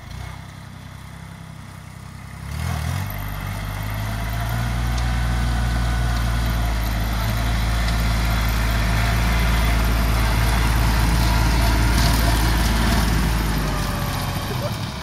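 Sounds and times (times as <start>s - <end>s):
rotary mower cutting crop: 0.0s - 15.0s
tractor diesel engine running: 0.0s - 15.0s.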